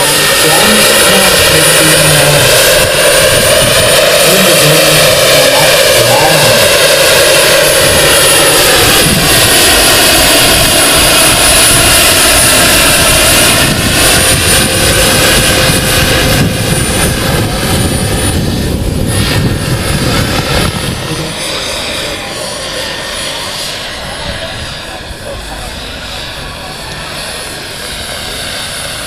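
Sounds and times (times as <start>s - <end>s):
helicopter rotor noise: 0.0s - 29.0s
high-pitched turbine whine: 0.0s - 29.0s.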